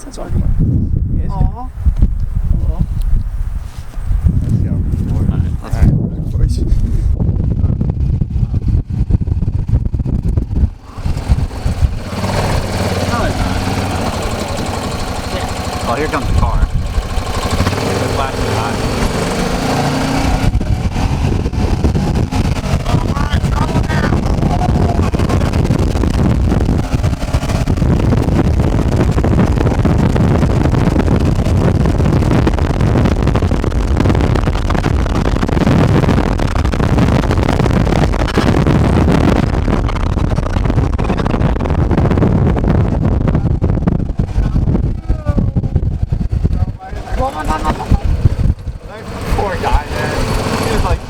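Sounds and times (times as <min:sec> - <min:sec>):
vehicle engine rumble: 0:00.0 - 0:51.0.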